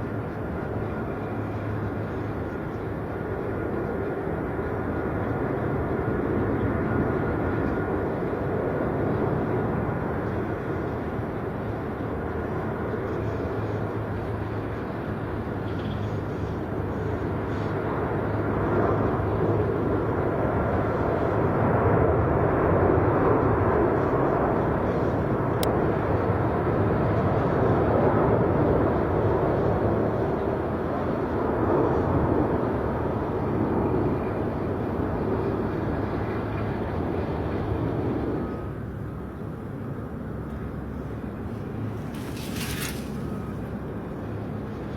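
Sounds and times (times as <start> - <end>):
jet airliner engines rumbling: 0.0 - 44.9.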